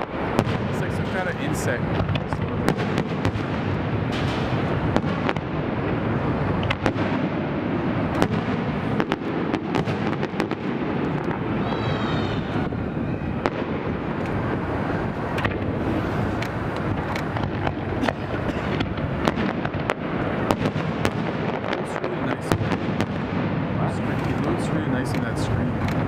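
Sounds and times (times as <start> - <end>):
rumble and crackle of fireworks: 0.0 - 26.0
sharp firework bangs: 0.0 - 26.0.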